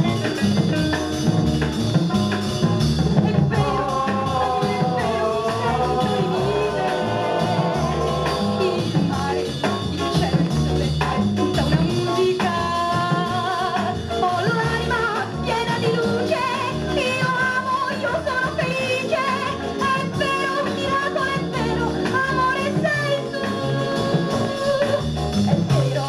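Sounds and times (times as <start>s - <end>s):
pop song with vocals: 3.0s - 26.0s.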